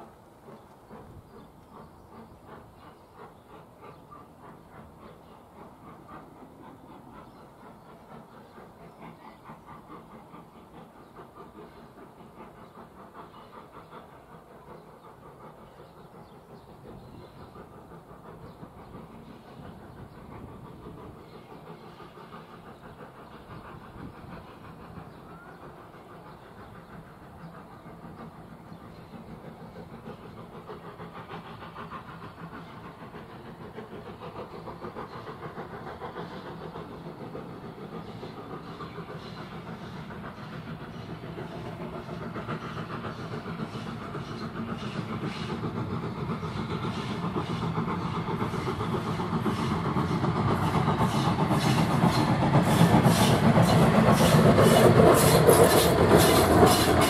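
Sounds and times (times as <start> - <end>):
steam train clattering: 0.0 - 57.0.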